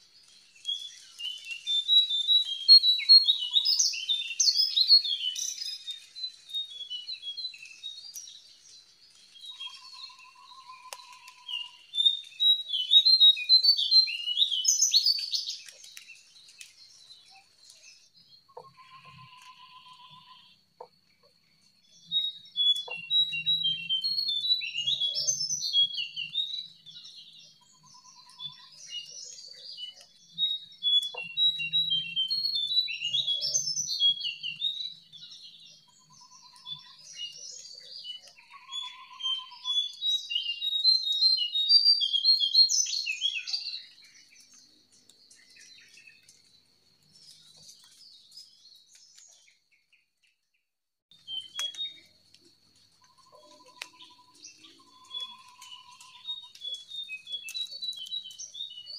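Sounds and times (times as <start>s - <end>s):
bird twittering song: 0.0s - 58.9s.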